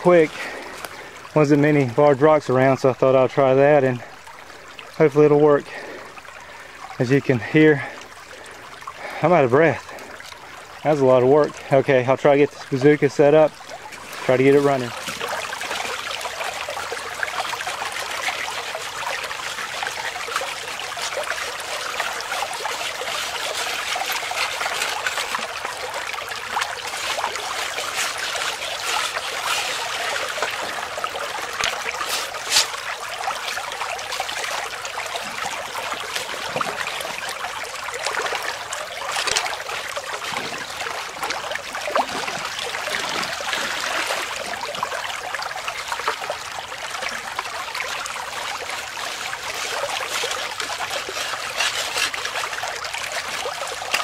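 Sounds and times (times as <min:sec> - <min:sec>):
creek water trickling: 0:00.0 - 0:54.0.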